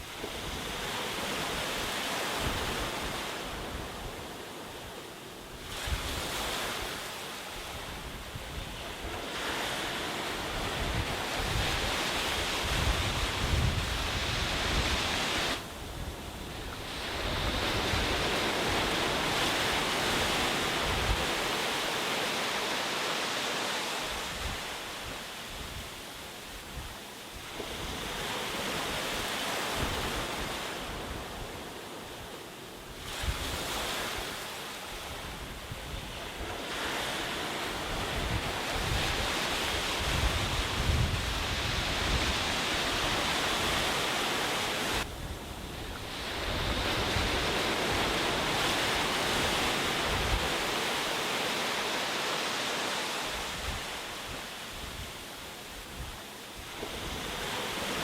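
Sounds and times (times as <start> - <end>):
sea waves breaking on beach: 0.0 - 58.0
wind rumbling on microphone: 5.5 - 7.0, 7.6 - 22.0, 24.0 - 51.6, 53.1 - 58.0.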